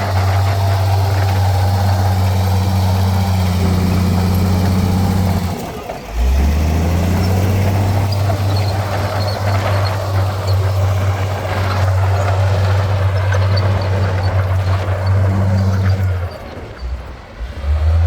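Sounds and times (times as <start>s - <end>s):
heavy diesel engine humming: 0.0s - 18.0s.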